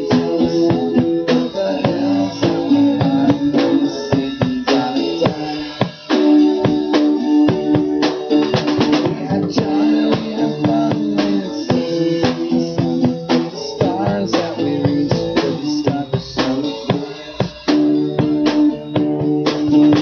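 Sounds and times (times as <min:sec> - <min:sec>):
drum kit beat: 0:00.0 - 0:20.0
guitar chords: 0:00.0 - 0:20.0.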